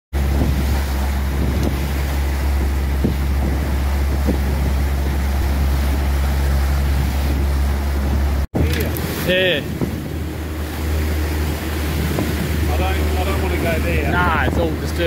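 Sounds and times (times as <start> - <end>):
boat wake churning: 0.1 - 15.0
heavy wind buffeting microphone: 0.1 - 15.0
outboard motor running: 0.1 - 15.0.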